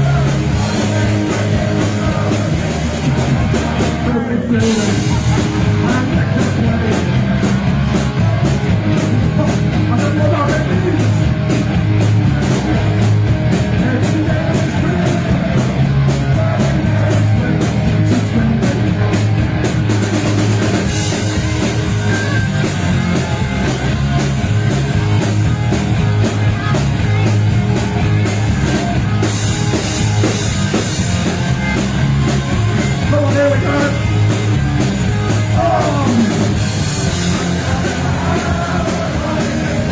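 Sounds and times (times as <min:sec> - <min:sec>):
bass guitar: 0:00.0 - 0:39.9
distorted electric guitars: 0:00.0 - 0:39.9
fast drum kit: 0:00.0 - 0:39.9.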